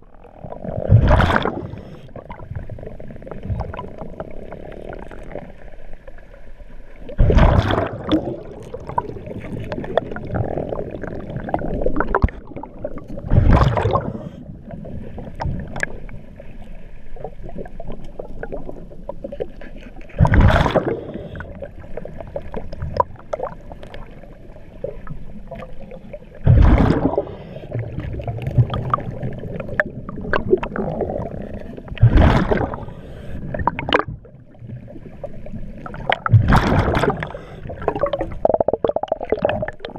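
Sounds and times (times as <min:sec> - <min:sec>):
exhaled bubbles rushing underwater: 0:00.0 - 0:39.9
underwater gurgling: 0:00.0 - 0:39.9.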